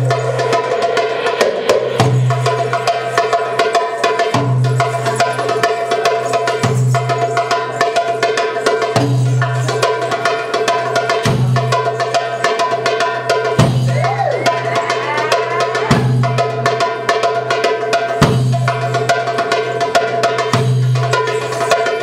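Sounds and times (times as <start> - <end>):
goblet drum rhythm: 0.0 - 22.0.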